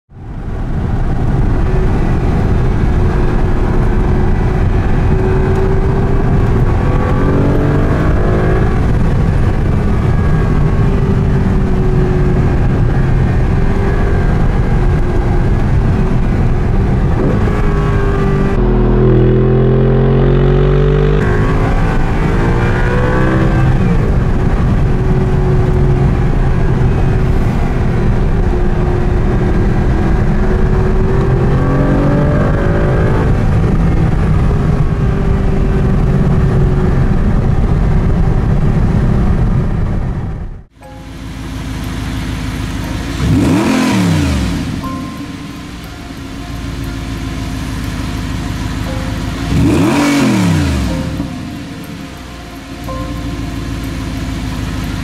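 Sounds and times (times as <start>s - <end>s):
car engine accelerating: 0.1s - 55.0s
steady rushing noise: 0.1s - 55.0s.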